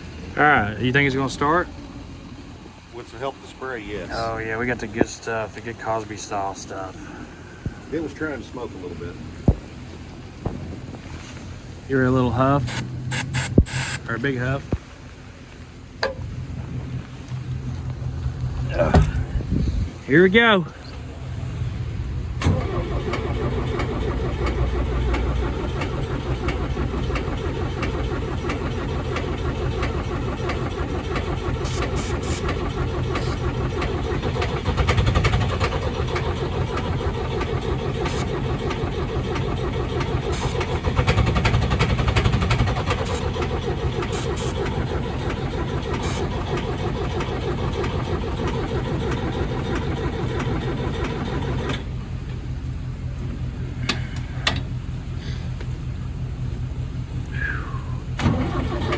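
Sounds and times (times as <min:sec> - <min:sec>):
diesel engine cranking and running: 0:00.0 - 0:58.9.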